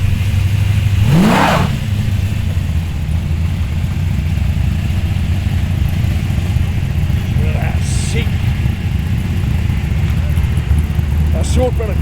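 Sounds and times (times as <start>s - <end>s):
car engines idling: 0.0s - 12.0s
engine revving: 0.0s - 12.0s.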